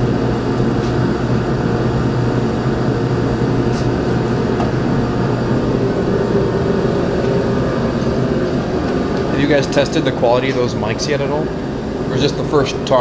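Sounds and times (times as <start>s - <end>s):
loud mechanical drone: 0.0s - 13.0s.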